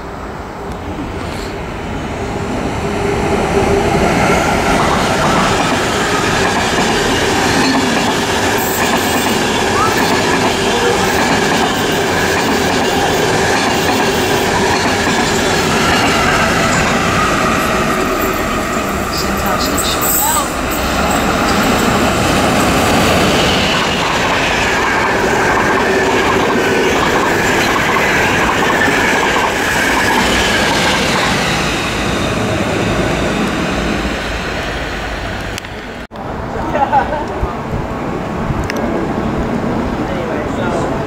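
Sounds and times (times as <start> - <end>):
train wheels running on rails: 0.0 - 36.3.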